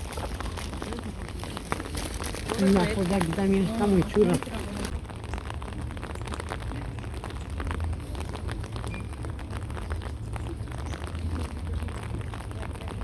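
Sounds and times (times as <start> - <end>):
crackles and clicks: 0.0 - 13.0.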